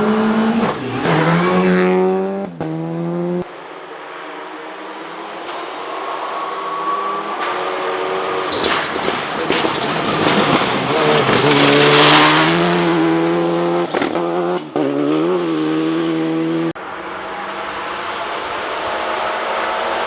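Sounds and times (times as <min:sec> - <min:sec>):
rally car engine at high revs: 0:00.0 - 0:20.0
rushing noise of passing car: 0:00.0 - 0:20.0.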